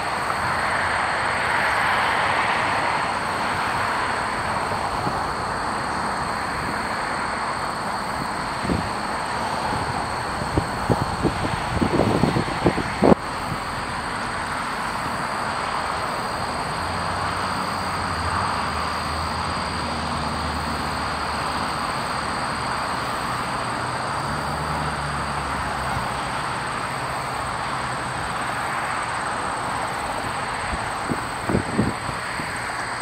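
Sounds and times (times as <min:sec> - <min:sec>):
distant traffic rumble: 0:00.0 - 0:33.0.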